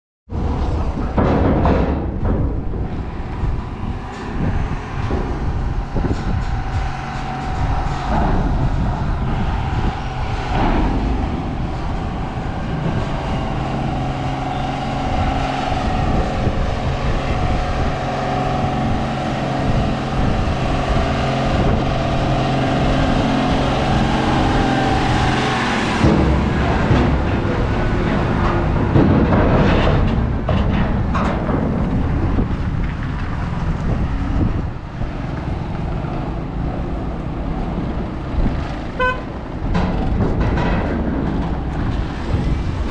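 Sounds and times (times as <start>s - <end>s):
car rolling over steel ramp: 0.3s - 42.9s
diesel truck engine running: 0.3s - 42.9s.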